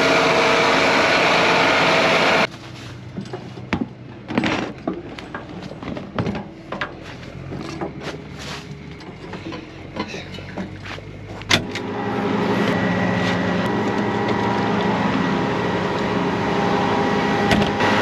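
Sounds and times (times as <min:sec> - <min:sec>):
farm machine engine running: 0:00.0 - 0:18.0.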